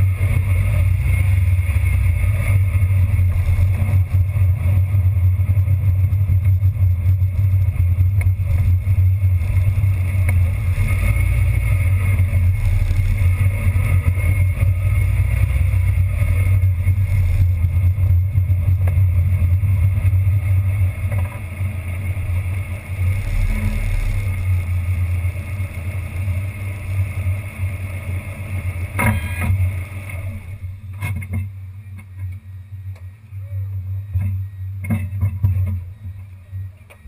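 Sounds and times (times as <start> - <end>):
road and wind noise in car: 0.0 - 37.0.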